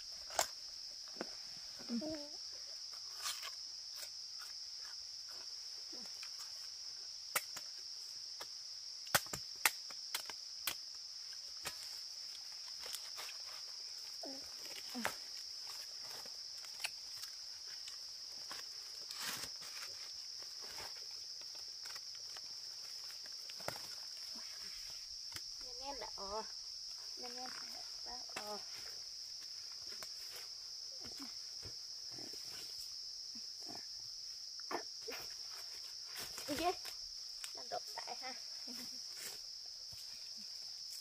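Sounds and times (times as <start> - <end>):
high-pitched insect chorus: 0.0 - 41.0.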